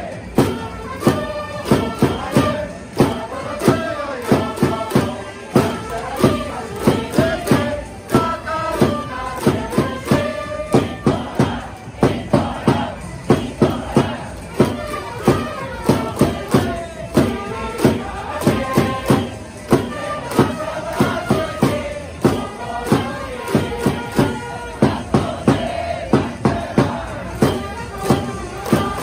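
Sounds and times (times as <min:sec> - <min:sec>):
crowd singing and chanting: 0:00.0 - 0:29.0.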